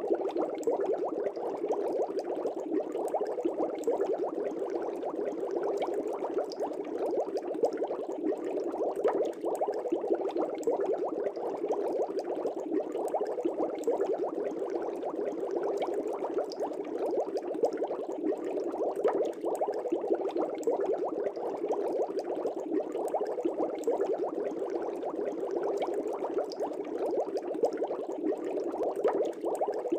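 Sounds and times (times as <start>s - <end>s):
aquarium air bubbles popping: 0.0s - 29.9s.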